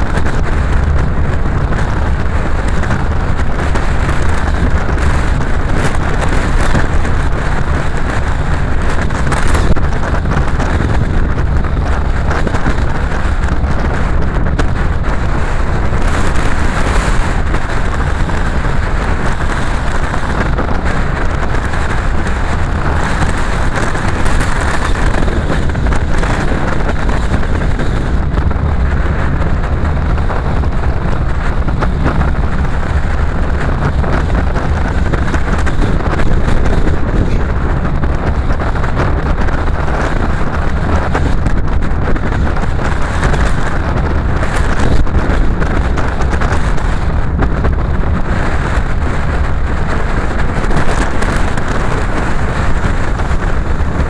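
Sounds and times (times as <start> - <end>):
car road noise at speed: 0.0 - 54.0.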